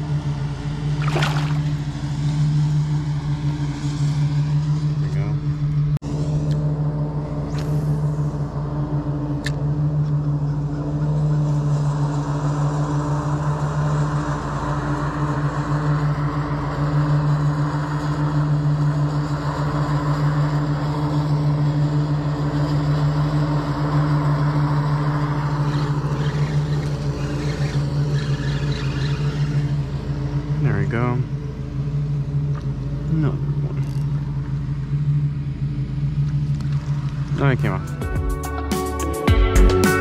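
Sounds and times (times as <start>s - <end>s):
low motor hum: 0.0s - 40.0s.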